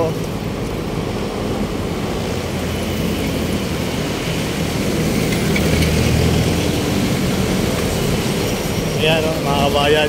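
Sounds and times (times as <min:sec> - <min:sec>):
heavy vehicle engine running: 0:00.0 - 0:10.0
street traffic: 0:00.0 - 0:10.0.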